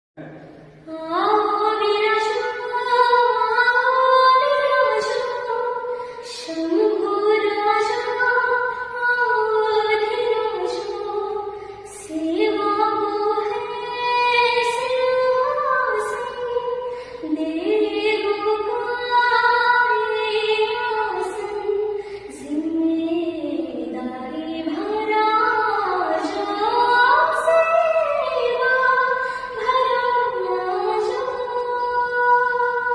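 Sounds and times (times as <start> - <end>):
woman singing: 0.9 - 32.9.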